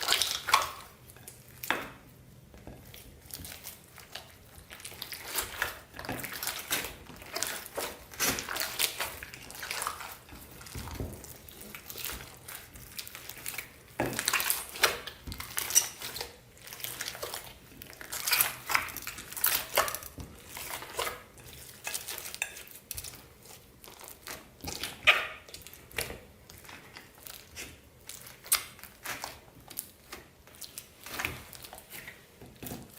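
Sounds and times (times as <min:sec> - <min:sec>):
slime squishing and crackling: 0:00.0 - 0:32.9.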